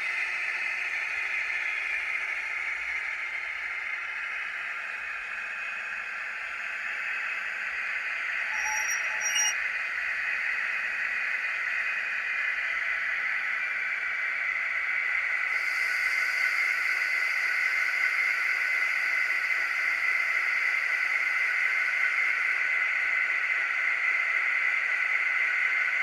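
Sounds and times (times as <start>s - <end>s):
high hiss: 0.0s - 26.0s.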